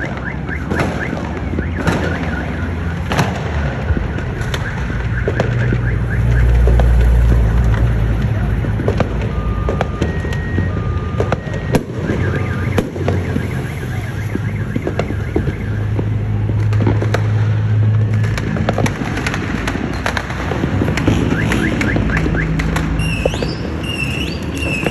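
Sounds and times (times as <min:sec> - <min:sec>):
car alarms beeping and warbling: 0:00.0 - 0:16.9, 0:20.9 - 0:24.9
fireworks cracking and banging: 0:00.0 - 0:24.9.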